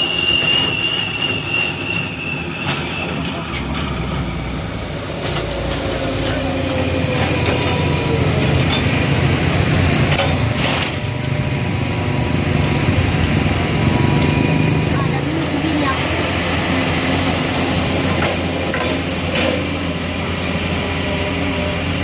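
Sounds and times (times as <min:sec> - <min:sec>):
small truck engine: 0:02.2 - 0:22.0.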